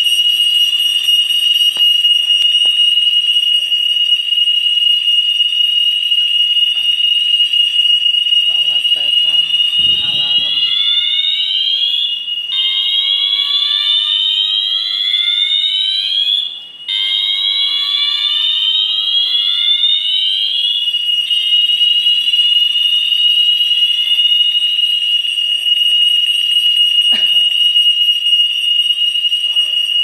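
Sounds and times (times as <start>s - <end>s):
fire alarm rising sweep: 0.0s - 30.0s
fire alarm steady high tone: 0.0s - 30.0s.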